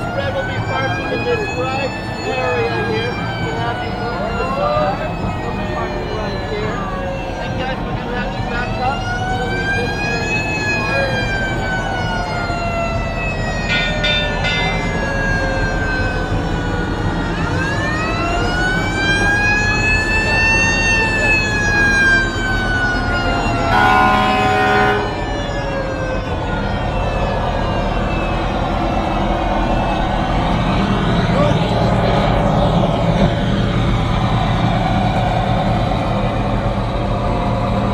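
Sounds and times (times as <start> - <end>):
low engine rumble: 0.0 - 37.9
siren wailing: 0.0 - 37.9
steady blaring tone: 0.0 - 37.9.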